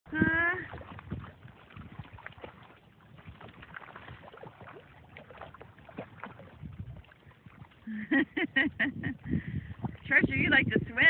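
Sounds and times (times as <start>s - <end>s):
dogs splashing in water: 0.1s - 11.0s.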